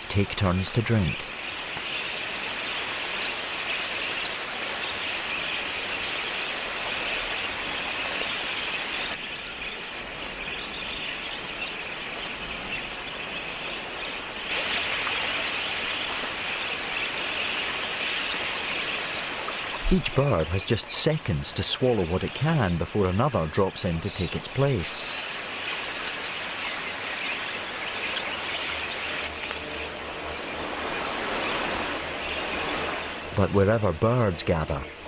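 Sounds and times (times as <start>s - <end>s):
flock of parakeets chirping: 0.0s - 35.0s.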